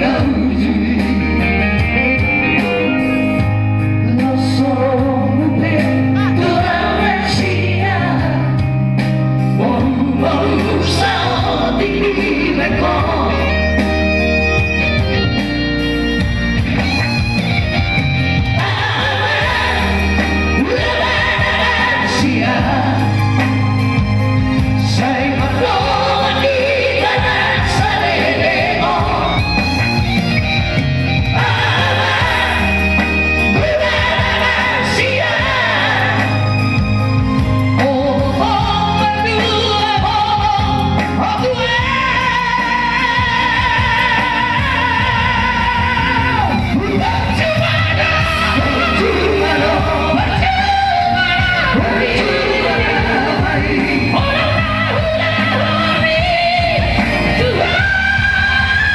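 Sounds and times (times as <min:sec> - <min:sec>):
vocal trio singing in harmony: 0:00.0 - 0:15.4, 0:18.2 - 0:58.9
instrumental accompaniment: 0:00.0 - 0:58.9.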